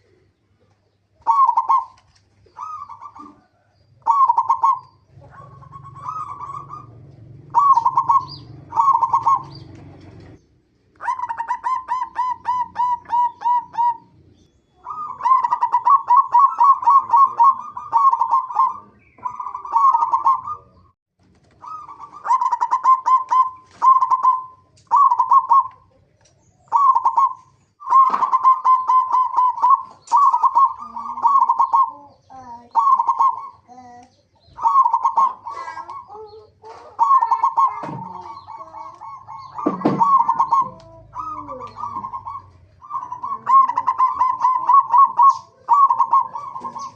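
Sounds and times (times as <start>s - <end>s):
dove cooing: 0.0s - 10.4s, 11.0s - 46.9s.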